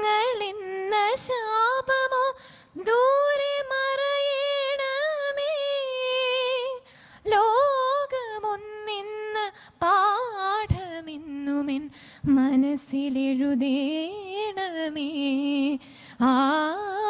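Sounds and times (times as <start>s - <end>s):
woman singing a prayer song: 0.0s - 17.0s.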